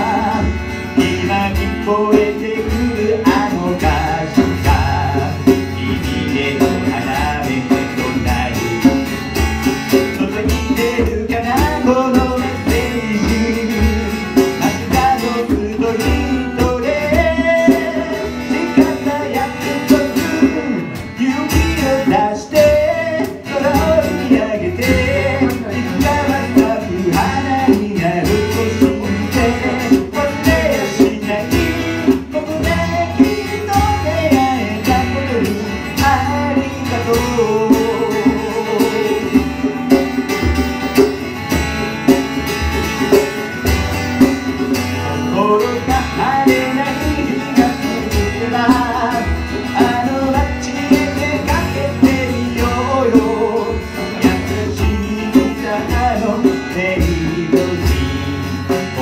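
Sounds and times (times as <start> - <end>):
man singing: 0.0 - 41.5, 43.1 - 59.0
acoustic guitar strumming: 0.0 - 59.0.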